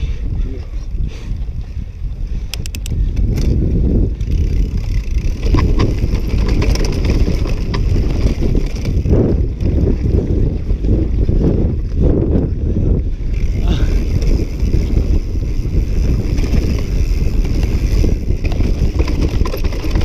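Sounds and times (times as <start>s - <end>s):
bike rattling: 0.0s - 20.0s
tyres rumbling on trail: 0.0s - 20.0s
wind buffeting microphone: 0.0s - 20.0s.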